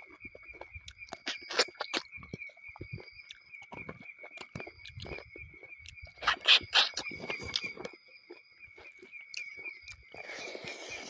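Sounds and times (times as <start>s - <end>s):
chewing and lip-smacking: 0.0s - 11.0s
pulsing insect chirp: 0.0s - 11.0s.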